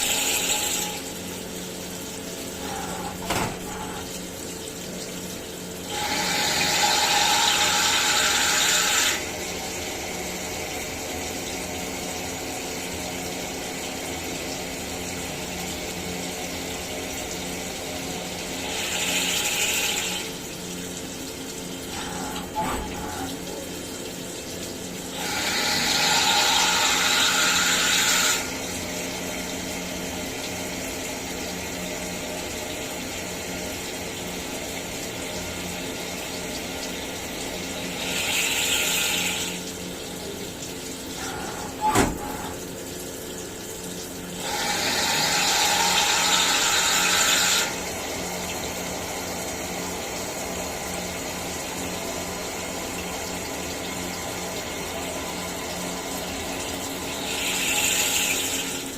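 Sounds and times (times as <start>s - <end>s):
milling machine humming: 0.0s - 58.9s.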